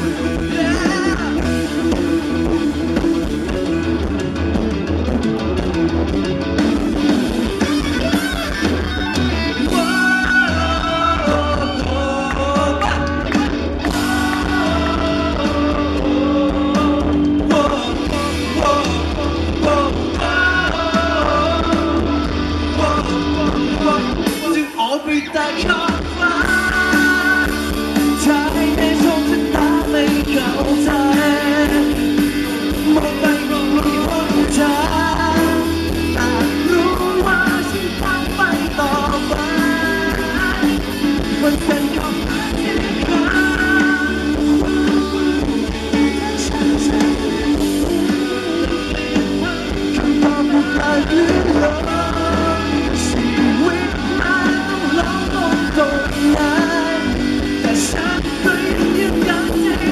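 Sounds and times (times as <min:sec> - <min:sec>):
man singing into a microphone: 0:00.0 - 0:02.6, 0:09.6 - 0:59.9
live rock band: 0:00.0 - 0:59.9.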